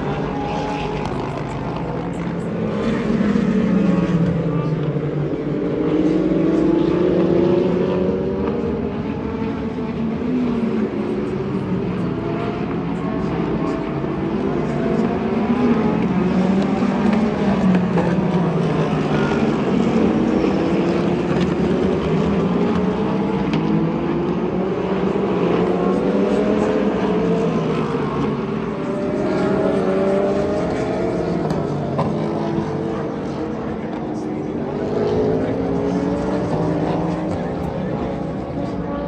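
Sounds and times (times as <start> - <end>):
race car engines accelerating: 0.0 - 39.0.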